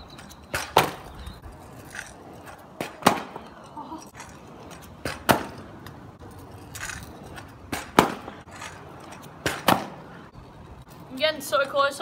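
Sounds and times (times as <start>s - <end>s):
scooter deck clacking on asphalt: 0.0s - 12.0s
scooter wheels rolling: 0.0s - 12.0s.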